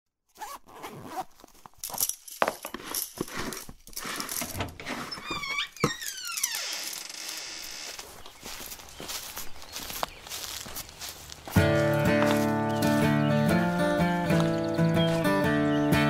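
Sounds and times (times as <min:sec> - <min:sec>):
crunching footsteps: 0:00.4 - 0:16.0.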